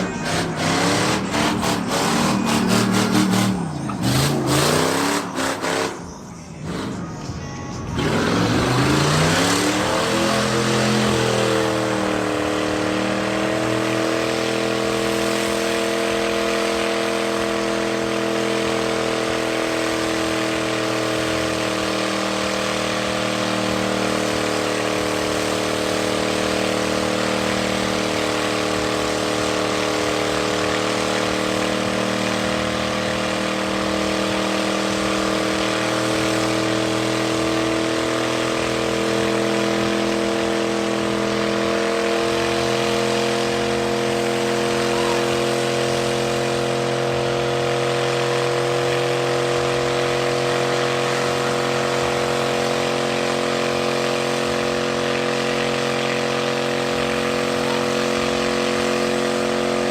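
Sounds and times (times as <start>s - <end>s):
spinning tyres hissing: 0.0s - 7.2s, 7.9s - 59.9s
truck engine revving: 0.0s - 59.9s.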